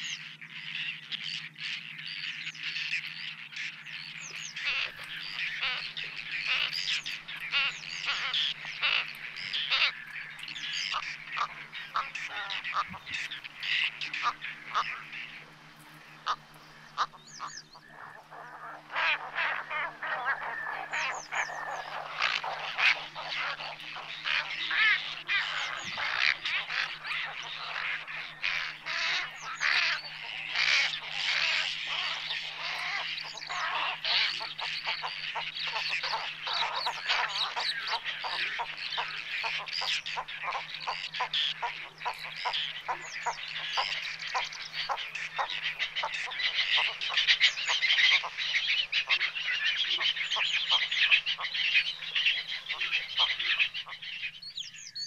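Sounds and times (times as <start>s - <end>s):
faint low hum: 0.0s - 55.0s
flock of birds calling: 0.0s - 55.0s.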